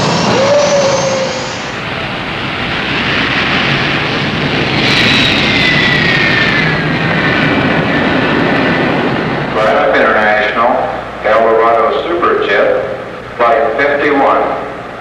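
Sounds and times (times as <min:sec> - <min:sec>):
high turbine whines sliding down: 0:00.0 - 0:15.0
jet engines starting: 0:00.0 - 0:15.0.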